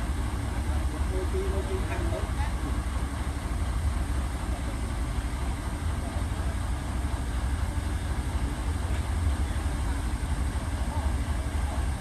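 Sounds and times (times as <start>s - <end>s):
heavy diesel machinery rumbling: 0.0s - 12.0s.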